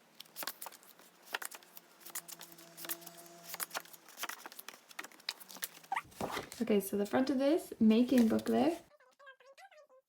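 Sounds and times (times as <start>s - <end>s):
paper rustling: 0.0s - 7.2s, 8.0s - 8.9s.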